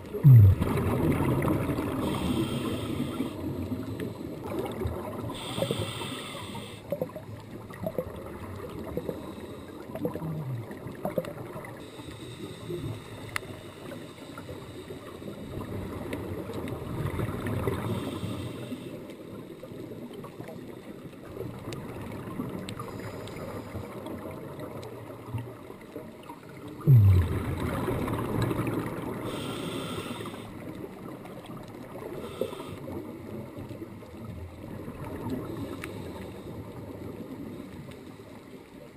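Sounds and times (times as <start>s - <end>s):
underwater bubbles gurgling: 0.0s - 38.9s.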